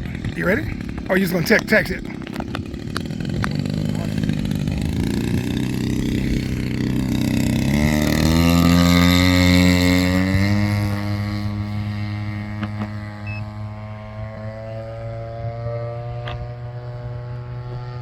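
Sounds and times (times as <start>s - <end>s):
model airplane engine running: 0.0s - 18.0s.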